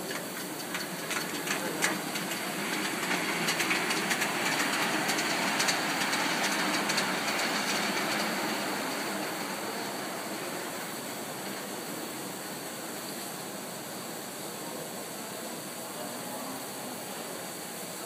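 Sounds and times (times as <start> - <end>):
wheels clicking on track: 0.0 - 15.2
steam hissing: 0.0 - 18.0.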